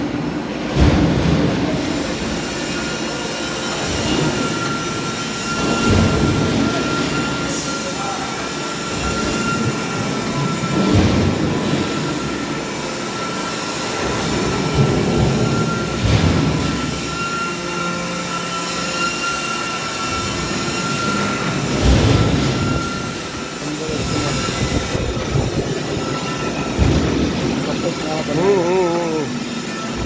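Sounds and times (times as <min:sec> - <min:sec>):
metalworking lathe running: 0:01.6 - 0:30.0.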